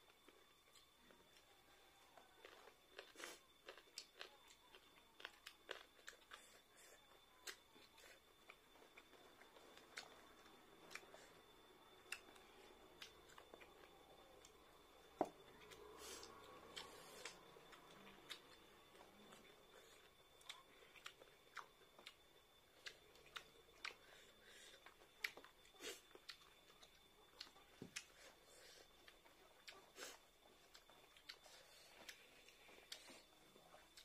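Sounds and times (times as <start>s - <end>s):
chewing and lip smacks: 2.3s - 34.0s.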